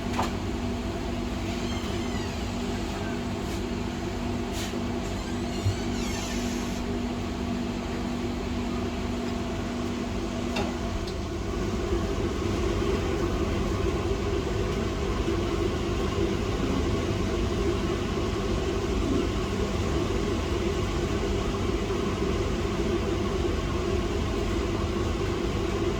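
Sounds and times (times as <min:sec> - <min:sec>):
blowing fan hum: 0:00.0 - 0:25.9.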